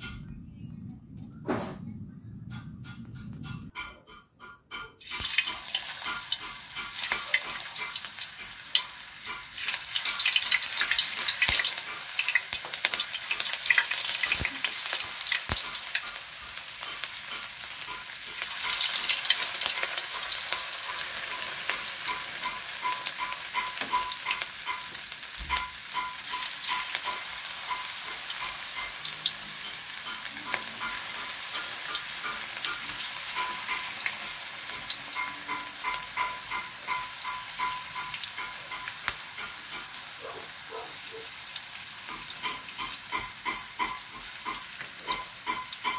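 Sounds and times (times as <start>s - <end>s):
potato slices sizzling in oil: 5.0s - 45.9s.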